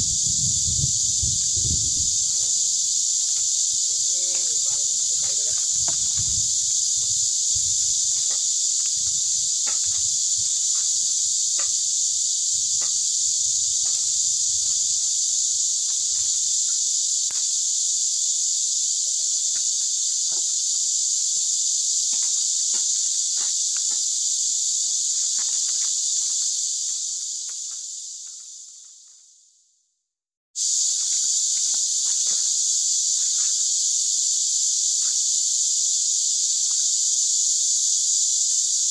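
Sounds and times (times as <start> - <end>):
insects chirring: 0.0 - 29.5, 30.6 - 38.9.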